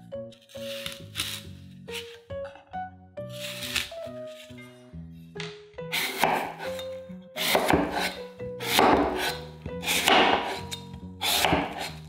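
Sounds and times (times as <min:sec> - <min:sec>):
soft background music: 0:00.0 - 0:12.0
knife slicing apple on board: 0:00.3 - 0:02.3, 0:03.3 - 0:04.6, 0:05.4 - 0:12.0.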